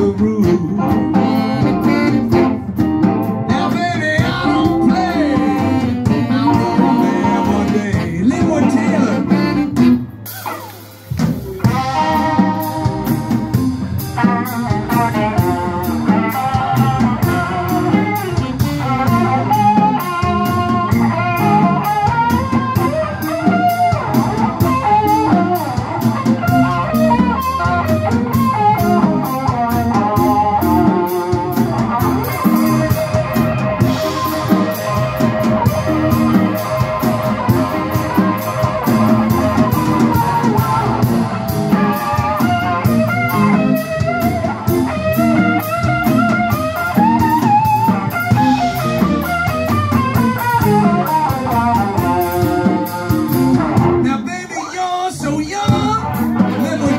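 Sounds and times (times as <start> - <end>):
blues band playing: 0.0 - 56.9
electric guitar solo: 0.0 - 56.9.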